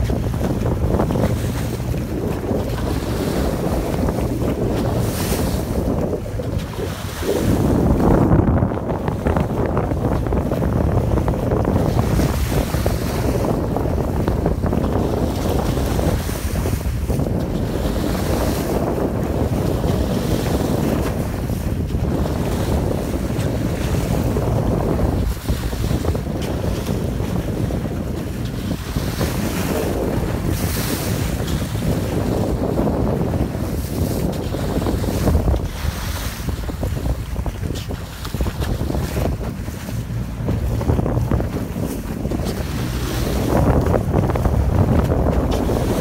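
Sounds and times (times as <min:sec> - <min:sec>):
water rushing along boat hull: 0:00.0 - 0:46.0
wind buffeting microphone: 0:00.0 - 0:46.0.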